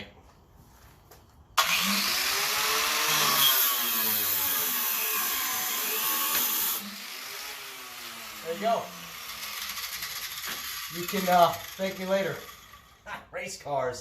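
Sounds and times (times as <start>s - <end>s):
power tool cutting steel cable: 1.6s - 13.0s.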